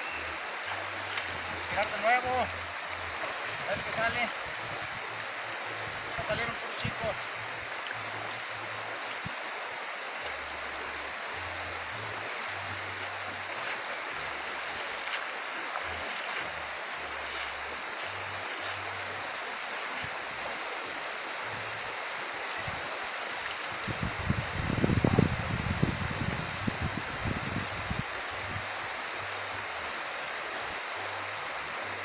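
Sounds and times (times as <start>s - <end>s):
river flowing over stones: 0.0s - 32.0s.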